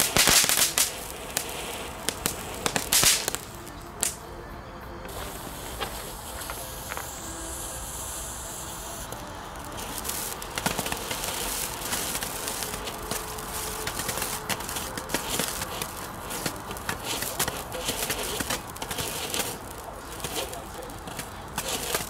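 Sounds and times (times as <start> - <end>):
dense crackle of quick pops: 0.0 - 4.3, 5.0 - 22.0
firework sparks hissing: 0.0 - 22.0.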